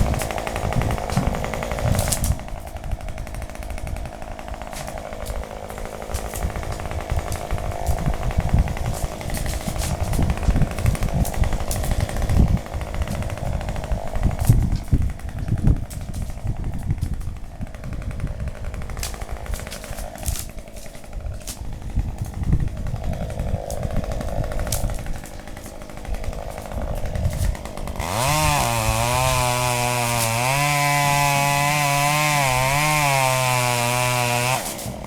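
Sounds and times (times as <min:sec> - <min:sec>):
chainsaw cutting: 0:00.0 - 0:35.0.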